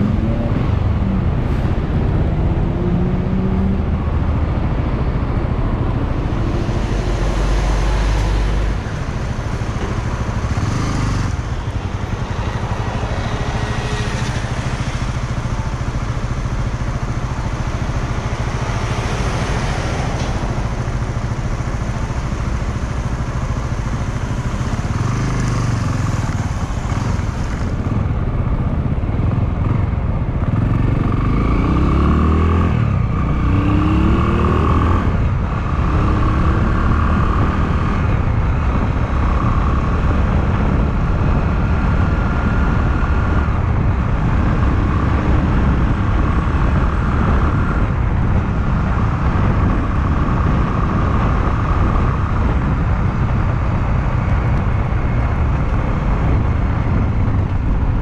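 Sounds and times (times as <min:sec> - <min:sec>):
motorcycle engine: 0:00.0 - 0:58.0
wind rumble on microphone: 0:00.0 - 0:58.0.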